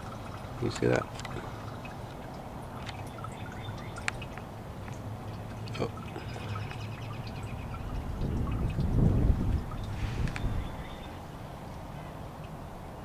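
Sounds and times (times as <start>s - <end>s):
low steady hum: 0.0s - 13.0s
water dripping: 0.0s - 13.0s.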